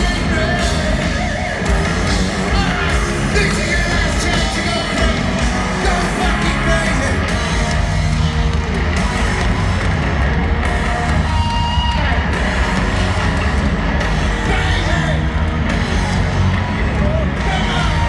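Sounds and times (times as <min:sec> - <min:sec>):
live heavy metal band: 0:00.0 - 0:18.0.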